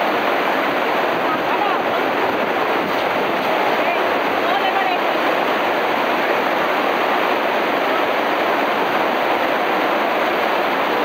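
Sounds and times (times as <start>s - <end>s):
river rapids rushing over rocks: 0.0s - 11.0s.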